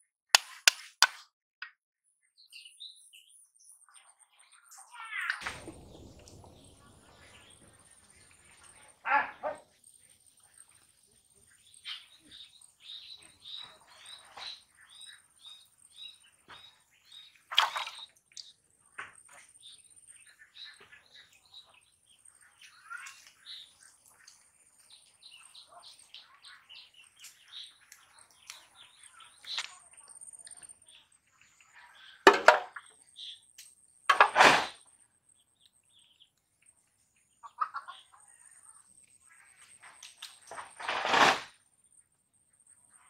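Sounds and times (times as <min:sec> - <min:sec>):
faint bird chirping: 0:02.0 - 0:34.1, 0:34.8 - 0:40.8, 0:41.6 - 0:43.0.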